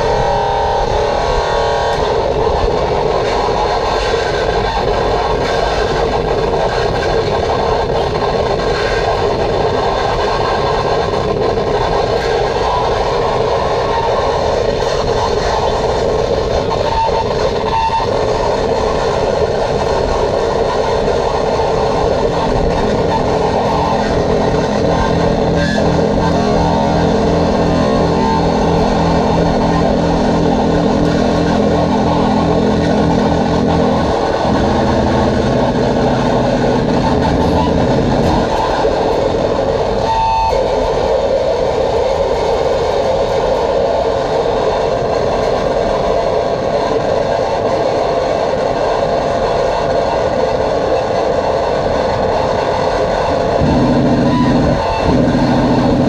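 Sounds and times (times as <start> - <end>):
distorted electronic noise: 0.0 - 47.6, 48.2 - 56.0
low throbbing pulse: 0.0 - 47.6, 51.8 - 56.0.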